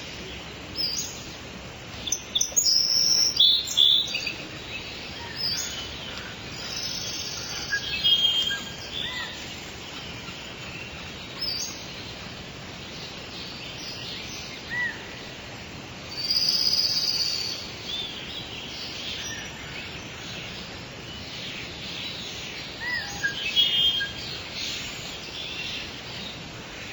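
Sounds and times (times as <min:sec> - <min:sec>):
birds calling and chirping: 0:00.0 - 0:26.9
steady background hiss: 0:00.0 - 0:26.9.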